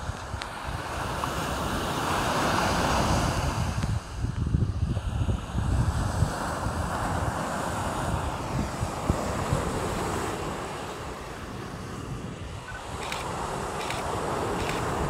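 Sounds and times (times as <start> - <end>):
ocean surf on sandy beach: 0.0 - 15.0
wind buffeting microphone: 0.0 - 15.0.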